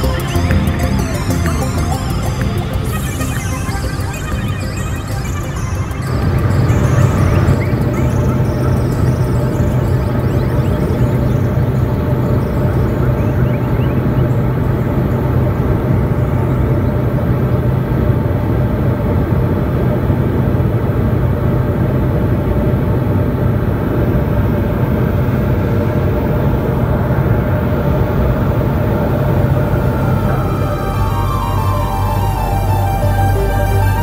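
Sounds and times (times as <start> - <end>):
aircraft engine and propeller hum: 0.0 - 34.0.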